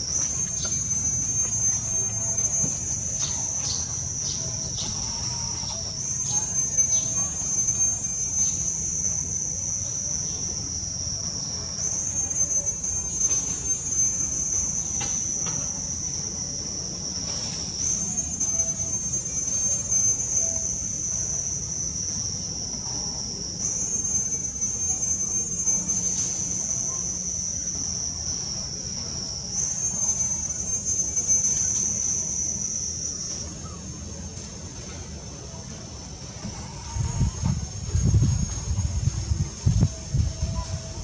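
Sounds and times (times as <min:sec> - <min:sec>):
insects buzzing: 0:00.0 - 0:41.0.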